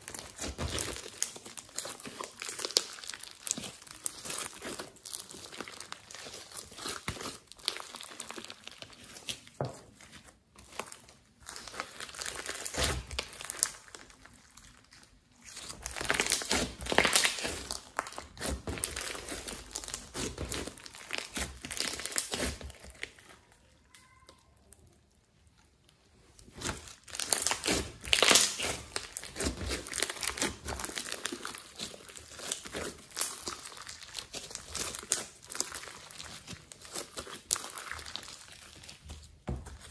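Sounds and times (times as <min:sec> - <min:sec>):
hands squishing slime: 0:00.0 - 0:24.3, 0:26.4 - 0:39.9.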